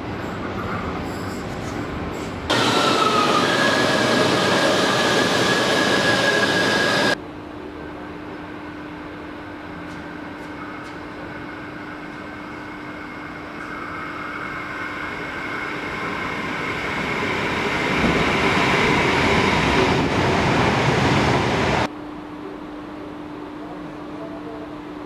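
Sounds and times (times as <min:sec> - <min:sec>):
train wheel and rail noise: 0:00.0 - 0:21.9
faint train whine: 0:02.2 - 0:25.0.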